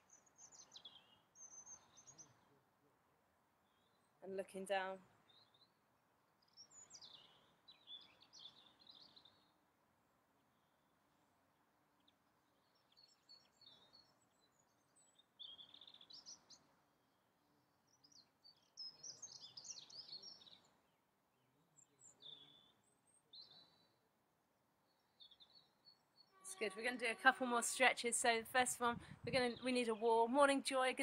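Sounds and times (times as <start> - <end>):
faint birdsong chirping: 0.0 - 31.0.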